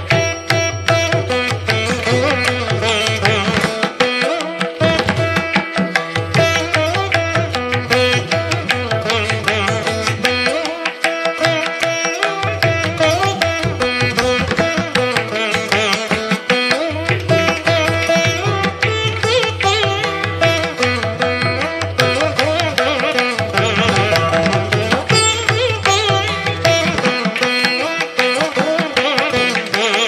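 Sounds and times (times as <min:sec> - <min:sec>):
plucked string instrument: 0:00.0 - 0:30.0.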